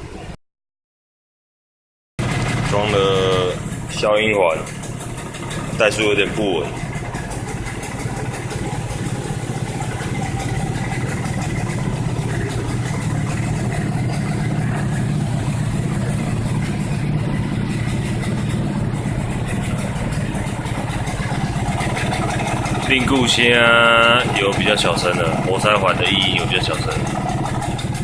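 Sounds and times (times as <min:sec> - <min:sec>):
motorcycle engine idling: 0:02.2 - 0:28.0
piston ring ticking: 0:03.5 - 0:28.0.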